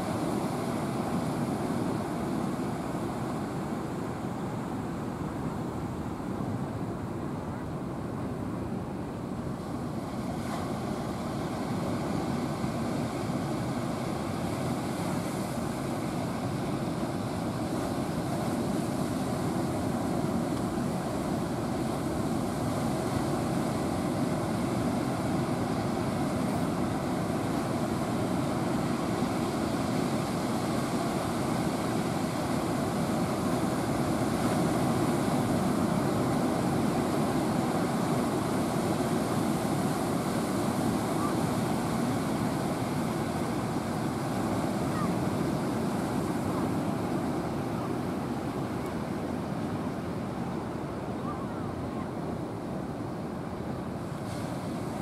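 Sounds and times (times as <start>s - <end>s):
large waves breaking: 0.0s - 55.0s.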